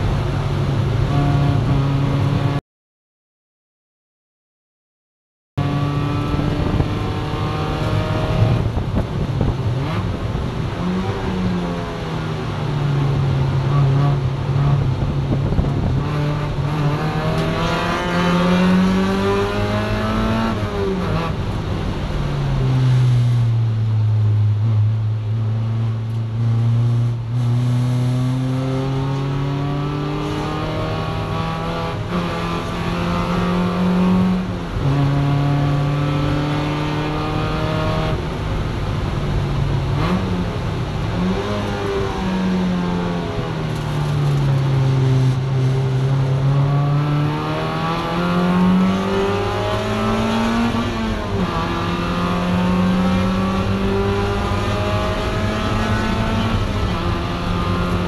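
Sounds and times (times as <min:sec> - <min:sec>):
race car engine revving: 0:05.6 - 0:11.8, 0:13.4 - 0:23.4, 0:25.6 - 0:58.0.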